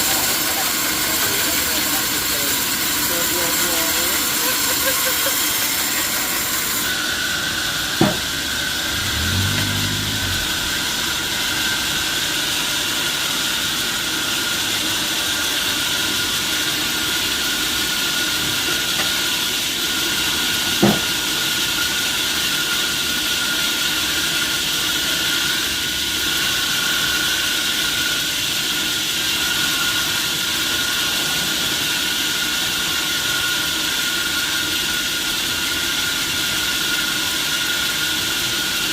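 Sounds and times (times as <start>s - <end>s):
sawmill machinery hissing: 0.0s - 38.9s.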